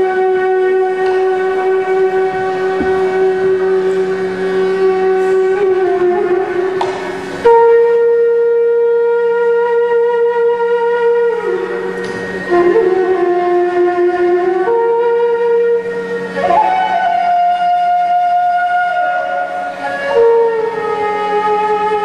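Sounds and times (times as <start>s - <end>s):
bamboo flute melody: 0.0s - 22.0s
low steady drone: 0.0s - 22.0s.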